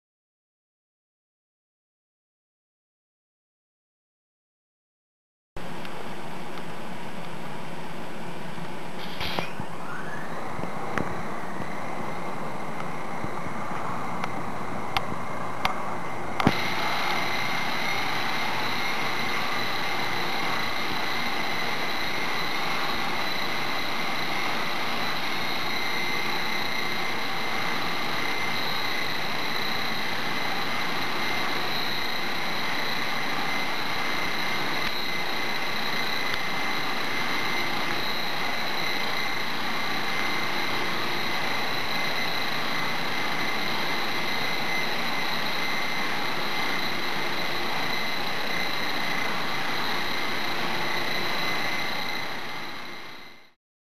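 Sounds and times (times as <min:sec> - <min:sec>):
rc helicopter rotors whirring: 0:08.5 - 0:53.6.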